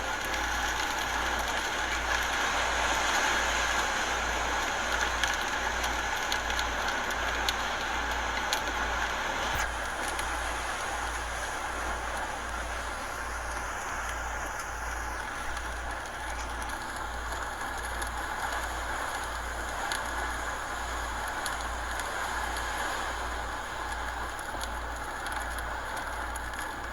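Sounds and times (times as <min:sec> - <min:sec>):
wind and rain rushing: 0:00.0 - 0:26.9.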